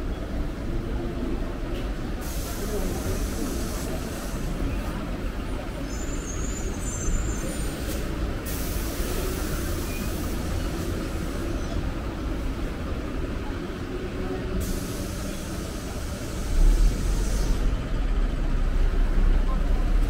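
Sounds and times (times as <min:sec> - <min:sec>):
vehicle rumble: 0:00.0 - 0:20.0.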